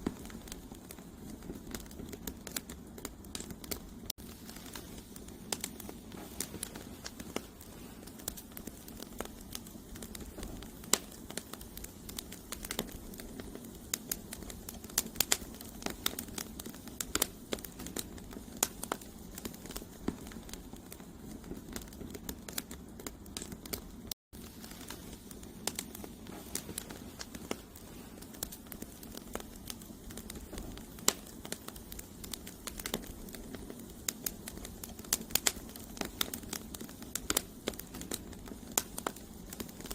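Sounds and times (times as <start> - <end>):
campfire crackling and popping: 0.0 - 39.9
low rush of flame: 0.0 - 39.9.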